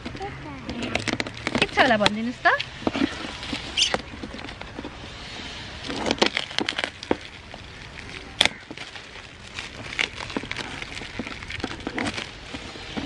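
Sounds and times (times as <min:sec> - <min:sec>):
foil gift wrap crinkling: 0:00.0 - 0:13.0.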